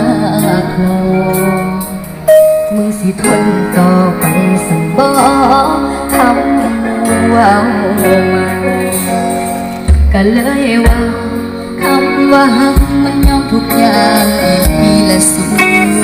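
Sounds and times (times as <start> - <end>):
song over loudspeakers: 0.0 - 16.0.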